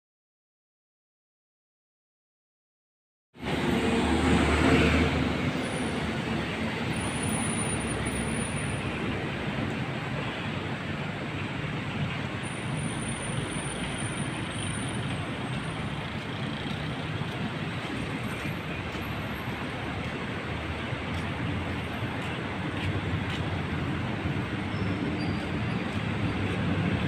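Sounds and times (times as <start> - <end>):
road traffic: 3.4 - 27.0.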